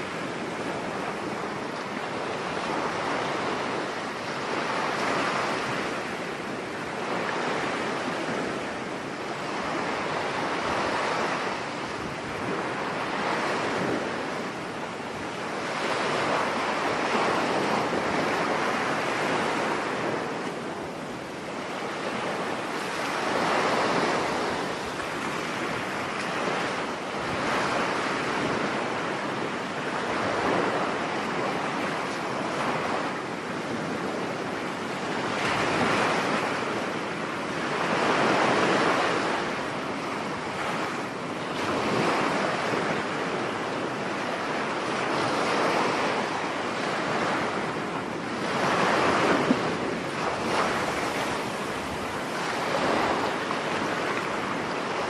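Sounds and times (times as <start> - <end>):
stormy wind: 0.0 - 55.0
surf breaking on beach: 9.4 - 55.0.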